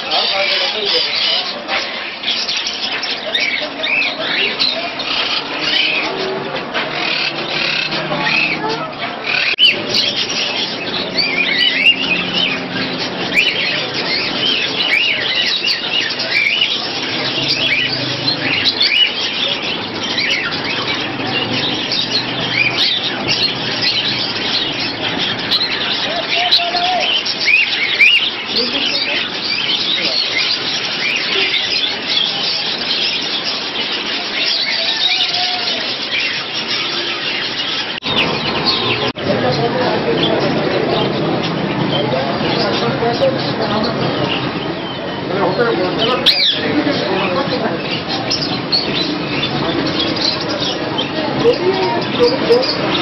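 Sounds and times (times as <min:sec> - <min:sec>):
caged birds chirping: 0:00.0 - 0:53.0.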